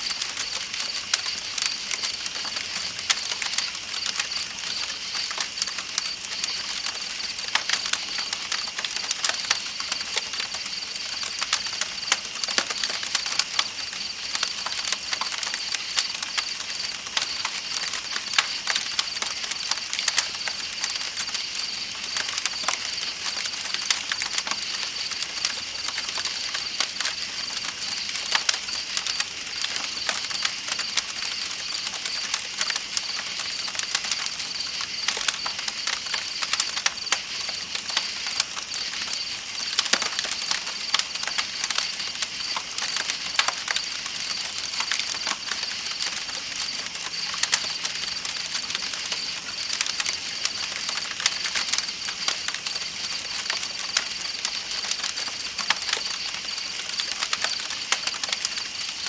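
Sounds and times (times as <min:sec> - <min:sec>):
campfire crackling: 0:00.0 - 0:59.0
night insects chorus: 0:00.0 - 0:59.0.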